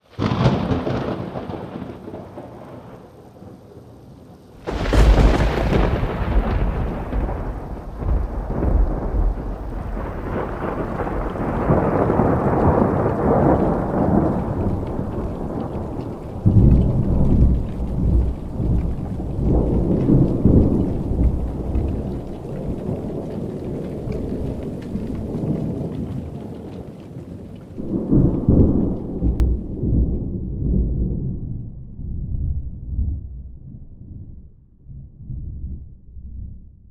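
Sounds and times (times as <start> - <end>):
thunder crack: 0.1 - 3.6, 4.6 - 34.3
rolling thunder rumble: 0.1 - 36.9.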